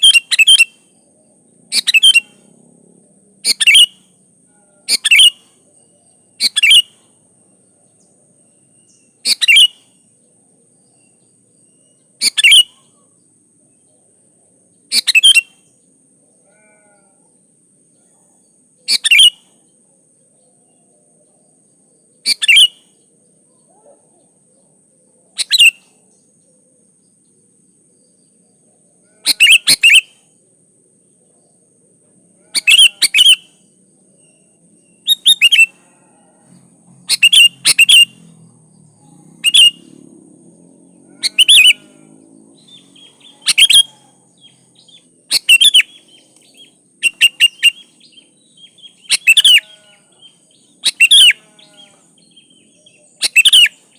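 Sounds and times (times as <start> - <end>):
bird chirping: 0.0 - 2.7, 3.4 - 53.9.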